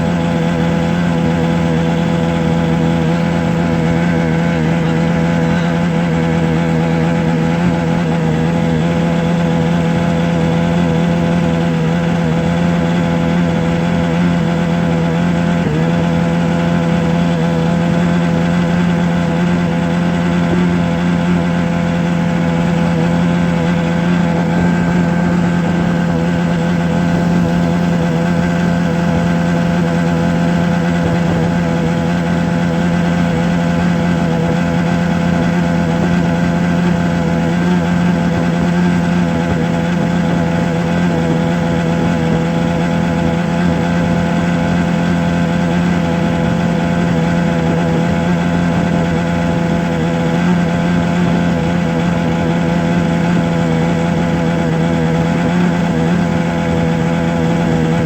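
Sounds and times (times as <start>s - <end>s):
steady low-pitched hum: 0.0s - 58.0s.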